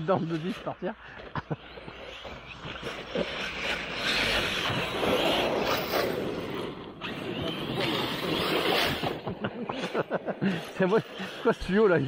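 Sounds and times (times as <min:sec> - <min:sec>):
tyres on dirt: 0:00.0 - 0:12.0
electric motor whine: 0:01.5 - 0:11.8.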